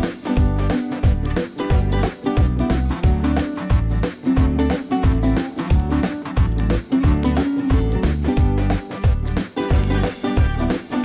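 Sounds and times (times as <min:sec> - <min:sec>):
instrumental music with bass beat: 0:00.0 - 0:11.0.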